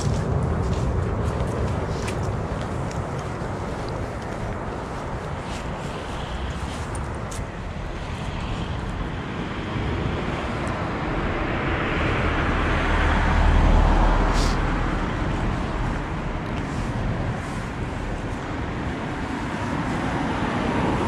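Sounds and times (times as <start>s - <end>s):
car passing by: 0.0s - 21.0s.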